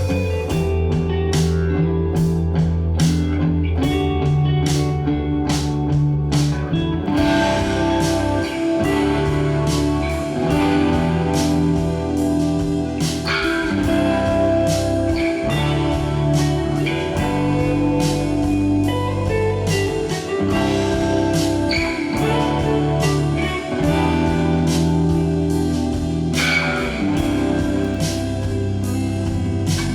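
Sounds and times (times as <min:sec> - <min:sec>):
bass guitar: 0:00.0 - 0:29.9
electric guitars: 0:00.0 - 0:29.9
programmed drum kit: 0:00.0 - 0:29.9.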